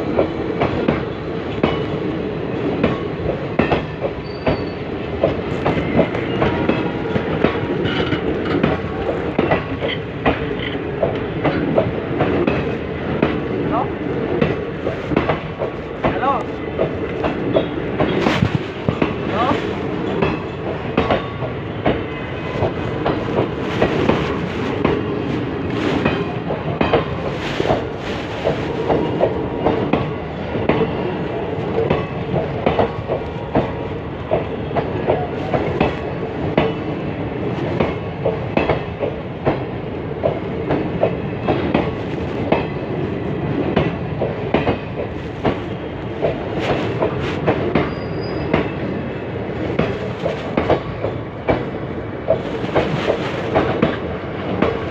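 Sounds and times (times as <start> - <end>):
train wheels clickety-clack: 0.0 - 54.9.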